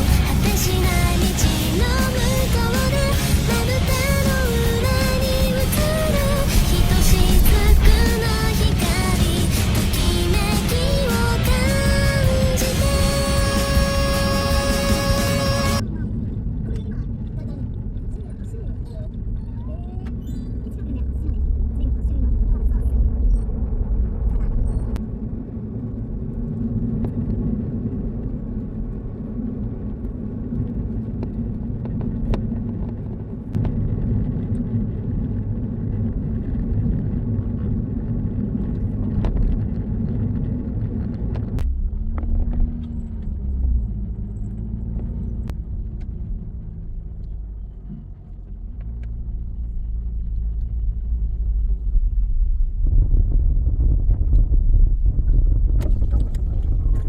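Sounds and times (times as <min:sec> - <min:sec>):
steady low rumble: 0:00.0 - 0:57.0.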